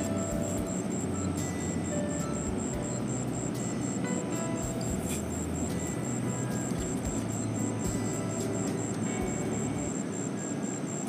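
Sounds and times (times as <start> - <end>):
background music with steady beat: 0.0 - 11.0
high repeating tick: 0.0 - 11.0.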